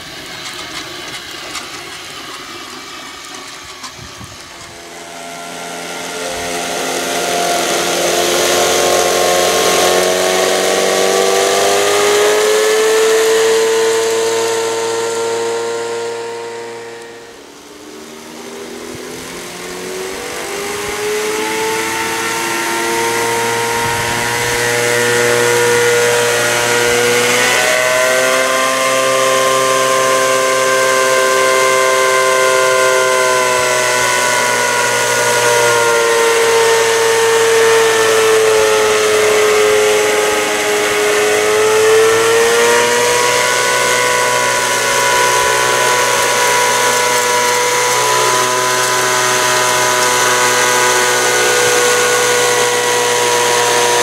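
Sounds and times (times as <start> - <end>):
model train electric motor whine: 0.0 - 54.0.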